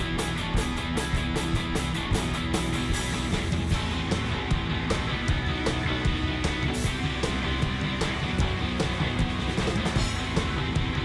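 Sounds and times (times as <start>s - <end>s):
rock music with guitar and drums: 0.0s - 11.0s.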